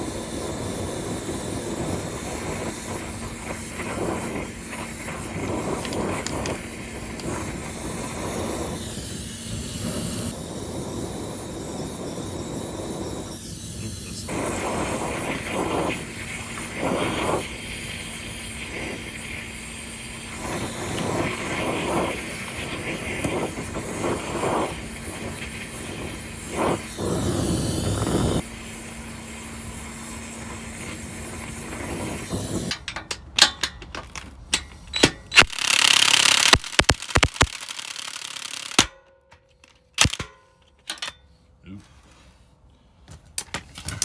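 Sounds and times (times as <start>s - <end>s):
gas torch hissing: 0.0s - 38.8s.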